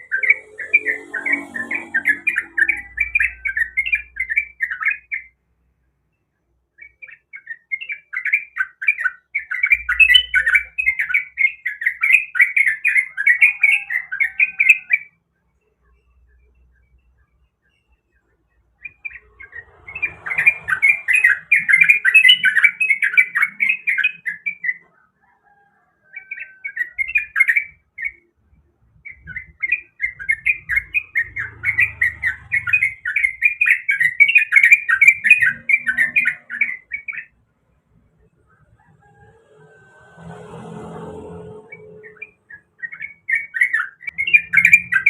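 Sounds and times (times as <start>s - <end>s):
bird chattering song: 0.0s - 5.4s, 6.1s - 25.1s, 26.2s - 39.0s, 41.8s - 45.0s.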